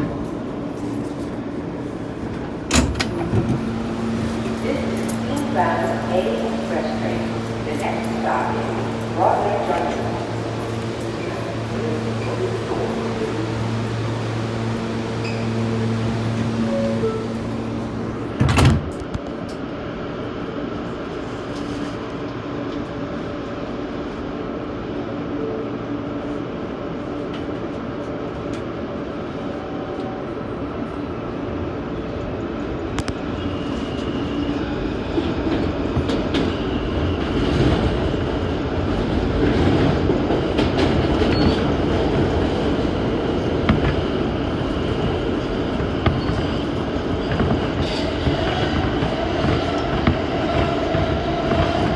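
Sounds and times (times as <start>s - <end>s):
subway train rumbling on rails: 0.0s - 51.9s.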